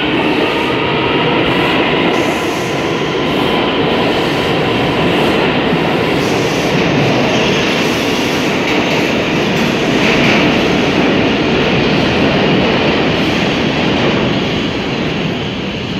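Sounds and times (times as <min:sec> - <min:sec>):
subway train wheels on rail: 0:00.0 - 0:15.9.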